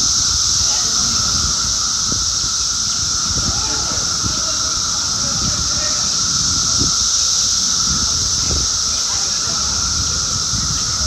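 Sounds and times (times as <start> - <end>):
cicadas chorus droning: 0.0 - 11.0.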